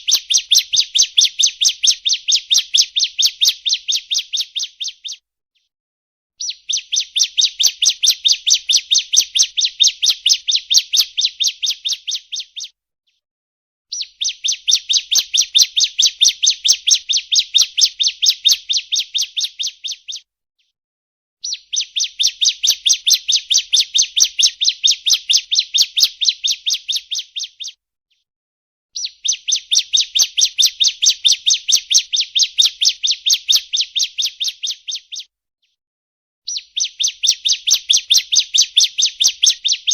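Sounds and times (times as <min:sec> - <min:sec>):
rapid high bird chirps: 0:00.0 - 0:05.2, 0:06.4 - 0:12.8, 0:13.9 - 0:20.3, 0:21.4 - 0:27.8, 0:29.0 - 0:35.3, 0:36.5 - 0:39.9.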